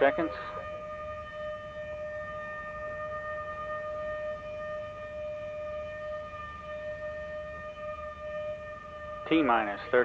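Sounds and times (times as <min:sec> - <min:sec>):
steady warning siren: 0:00.0 - 0:10.0.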